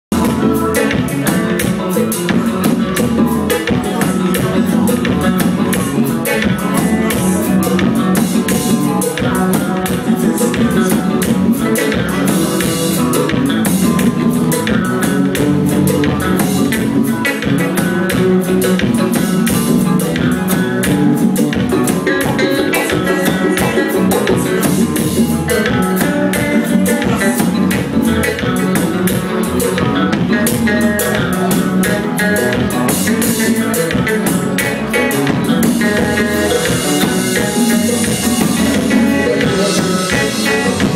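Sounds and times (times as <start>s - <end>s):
drum kit: 0.0s - 40.9s
electric bass guitar: 0.0s - 40.9s
live band playing: 0.1s - 40.9s.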